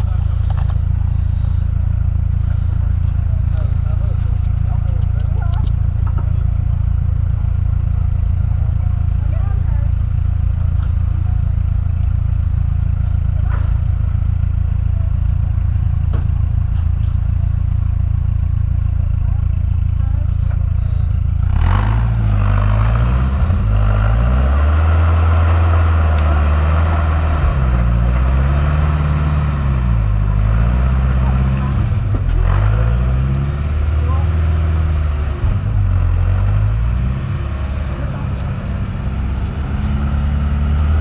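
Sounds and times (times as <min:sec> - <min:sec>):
buggy engine revving: 0:00.0 - 0:41.0.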